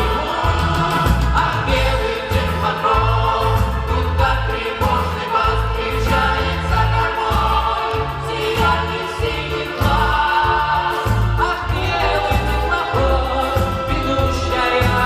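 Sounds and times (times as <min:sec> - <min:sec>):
instrumental accompaniment with bass: 0:00.0 - 0:15.0
vocal ensemble singing: 0:00.0 - 0:15.0.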